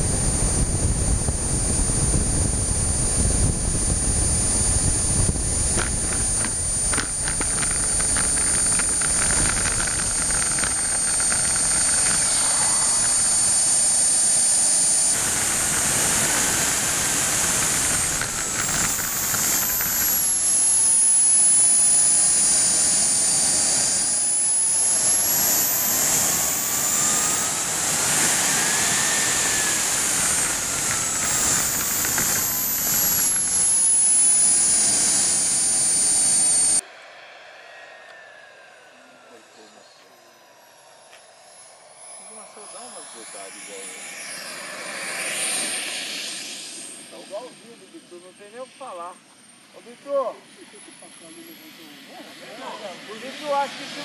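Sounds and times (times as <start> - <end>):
model jet engine whine: 0.0 - 54.0.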